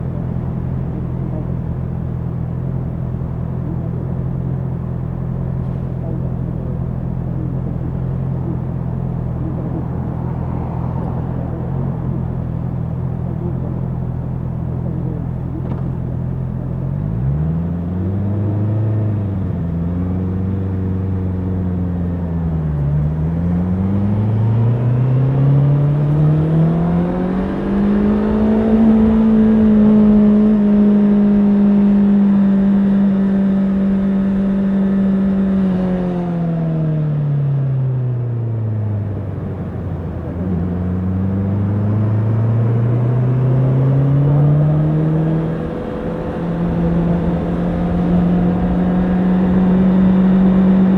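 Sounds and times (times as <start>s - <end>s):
motorcycle engine revving: 0.0s - 37.0s, 39.0s - 50.9s.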